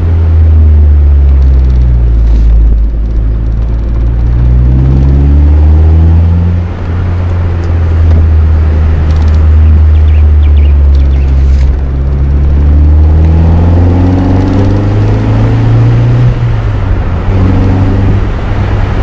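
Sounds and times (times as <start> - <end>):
car engine rumbling and revving: 0.0 - 19.0.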